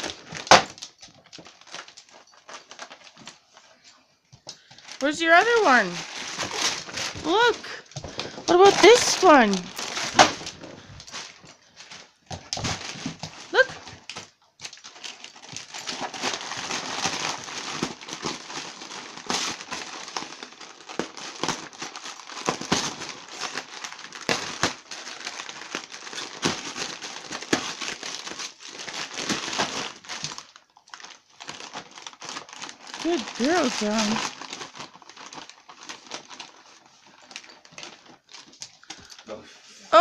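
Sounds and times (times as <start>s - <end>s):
wrapping paper crinkling and ripping: 0.0s - 40.0s.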